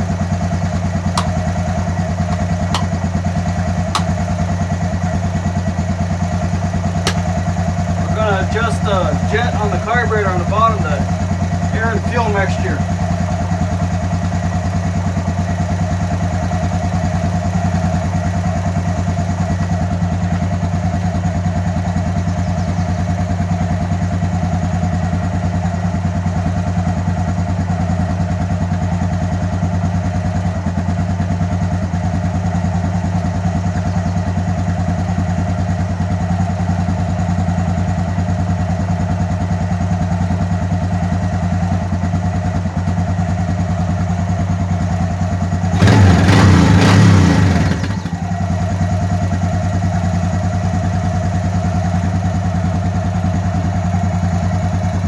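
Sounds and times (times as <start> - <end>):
atv engine idling: 0.0 - 55.0.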